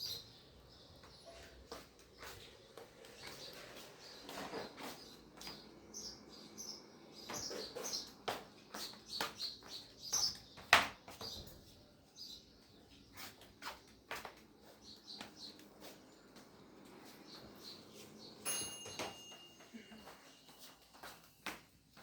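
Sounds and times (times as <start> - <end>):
small birds chirping: 0.0 - 21.4.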